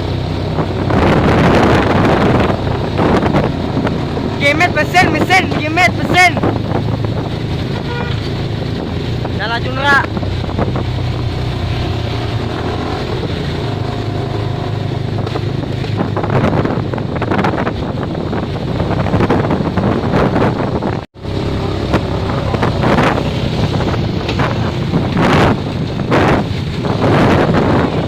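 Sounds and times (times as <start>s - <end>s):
engine running steadily: 0.0s - 28.0s
wind buffeting microphone: 0.0s - 28.0s.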